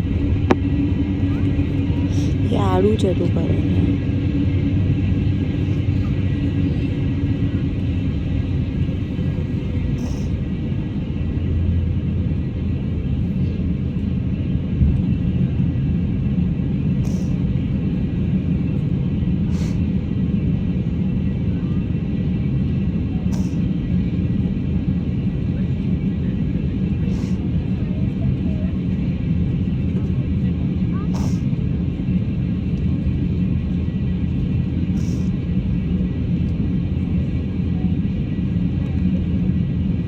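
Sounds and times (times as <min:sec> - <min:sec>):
airliner cabin rumble: 0:00.0 - 0:40.0.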